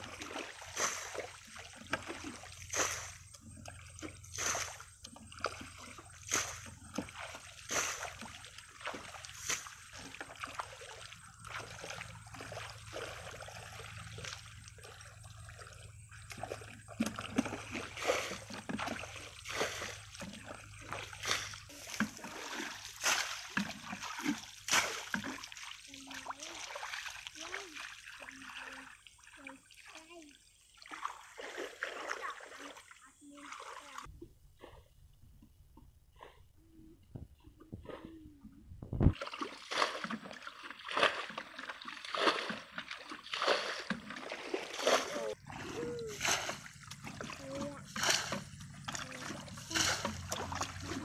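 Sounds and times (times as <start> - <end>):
water pouring from bucket: 0.0 - 34.1, 38.8 - 51.0
muddy water splashing: 0.0 - 35.5, 37.4 - 51.0.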